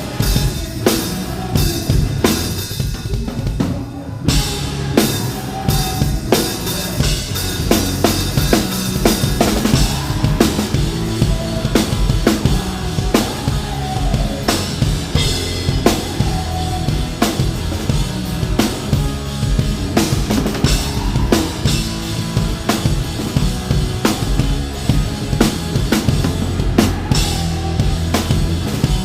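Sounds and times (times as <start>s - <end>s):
bass drum and snare beat: 0.0s - 29.0s
hard rock band playing: 0.0s - 29.0s.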